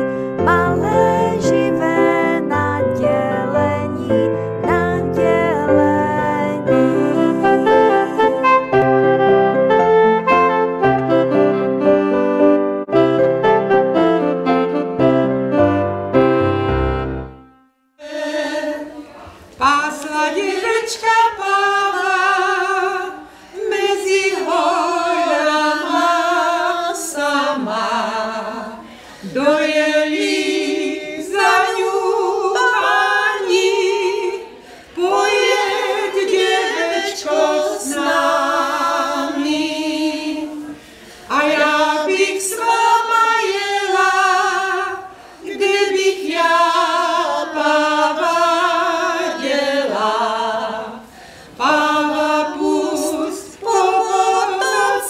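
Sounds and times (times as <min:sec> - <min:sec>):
a cappella choir singing: 0:00.0 - 0:15.3, 0:18.0 - 0:55.0.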